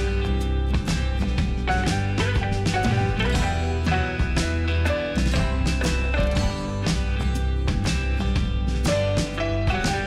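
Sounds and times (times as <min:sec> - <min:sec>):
drums steady beat: 0:00.0 - 0:10.0
guitar-led instrumental music: 0:00.0 - 0:10.0.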